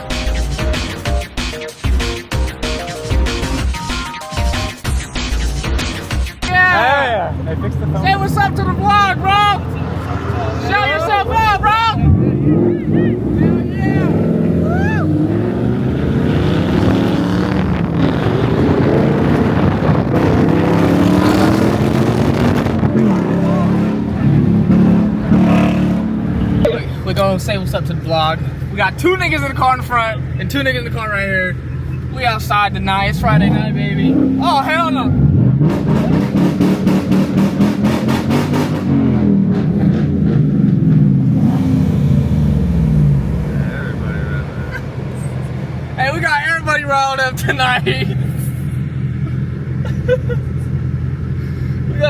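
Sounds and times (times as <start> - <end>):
car engine accelerating: 4.9 - 52.0
sharp exhaust cracks: 5.0 - 52.0.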